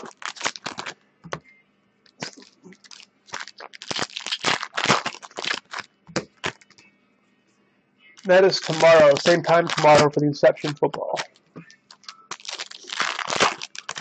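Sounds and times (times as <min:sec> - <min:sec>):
foil wrappers crinkling and tearing: 0:00.0 - 0:01.0, 0:02.2 - 0:06.8, 0:08.2 - 0:14.0.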